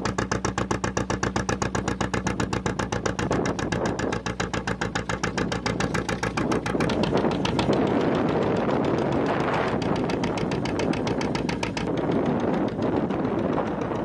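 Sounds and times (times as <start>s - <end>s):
boat diesel engine chugging: 0.0s - 14.0s.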